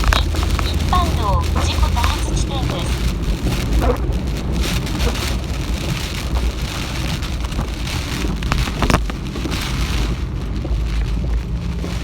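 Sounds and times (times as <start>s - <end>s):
car driving on wet road: 0.0s - 12.0s
heavy rain on a car: 0.0s - 12.0s.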